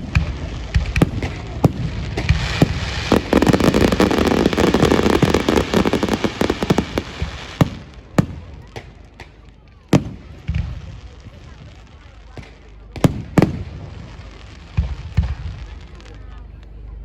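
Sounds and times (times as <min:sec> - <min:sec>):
fireworks bangs: 0:00.0 - 0:16.4
fireworks crackling: 0:00.0 - 0:16.9.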